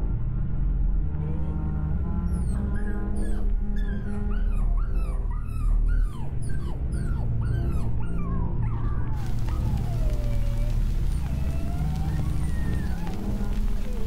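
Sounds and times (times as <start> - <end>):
whimpering animal cries: 2.2 - 14.0.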